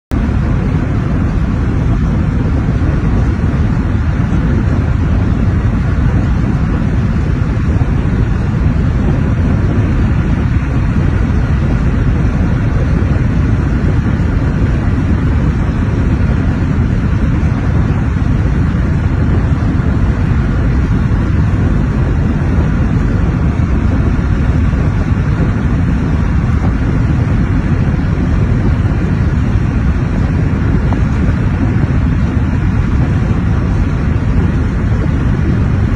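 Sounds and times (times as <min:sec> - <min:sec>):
tyre and wind road noise: 0:00.1 - 0:35.9.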